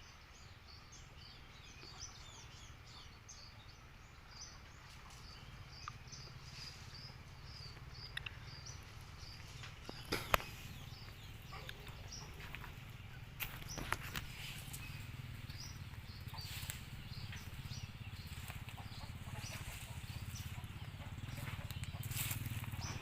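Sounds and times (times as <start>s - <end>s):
low steady hum: 0.0s - 23.0s
small bird chirping: 0.0s - 23.0s.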